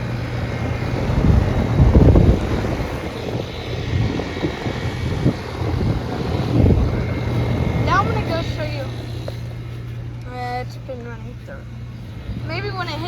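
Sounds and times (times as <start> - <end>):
rush of blowing air: 0.0 - 10.9
air conditioner condenser humming: 0.0 - 13.0.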